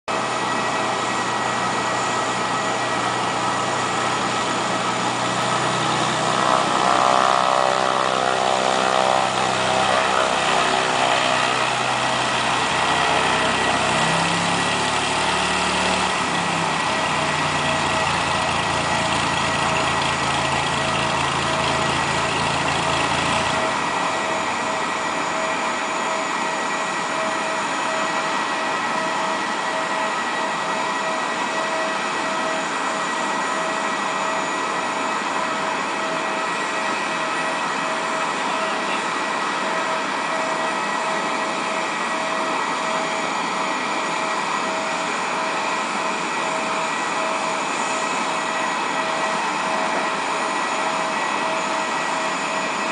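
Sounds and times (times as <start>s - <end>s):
propeller plane engine: 0.0s - 52.9s.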